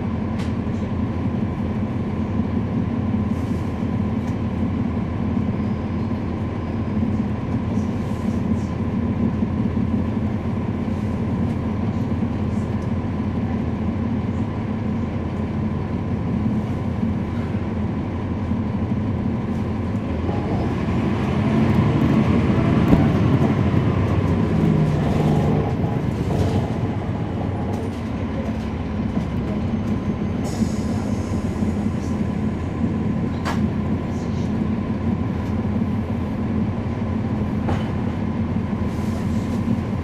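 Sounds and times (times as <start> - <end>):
bus diesel engine running: 0.0 - 40.0.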